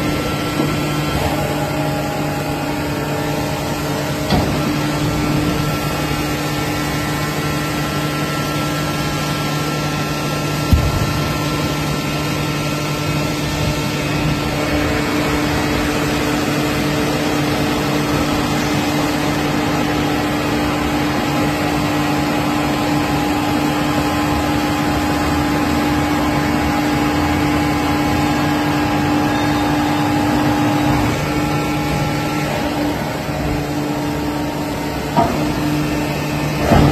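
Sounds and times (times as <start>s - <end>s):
hydraulic power unit hum: 0.0s - 36.9s.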